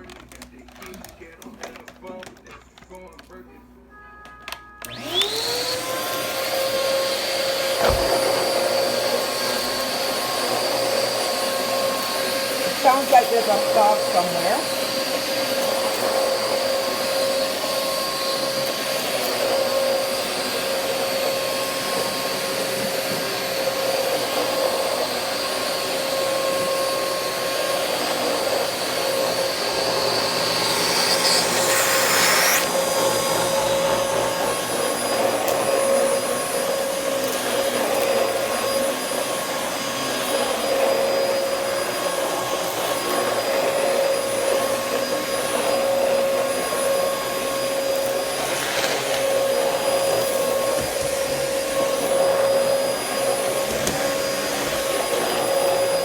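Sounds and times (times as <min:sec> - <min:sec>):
vacuum cleaner running: 0:04.8 - 0:56.0.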